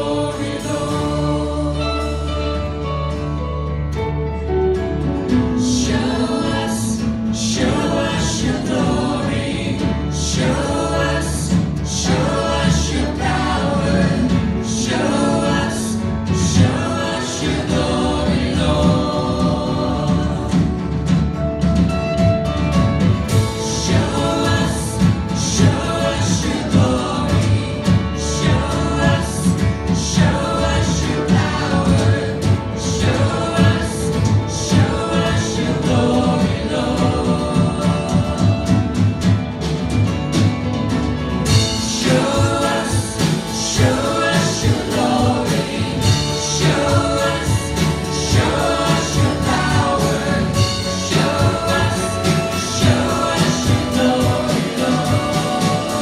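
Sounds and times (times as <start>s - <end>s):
lead and backing vocals: 0.0s - 56.0s
live band playing: 0.0s - 56.0s.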